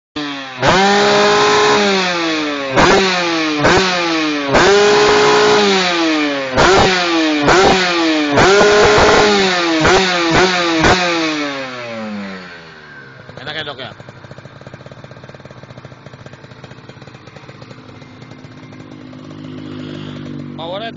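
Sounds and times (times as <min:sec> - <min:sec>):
two-stroke motorcycle engine revving: 0:00.2 - 0:20.9.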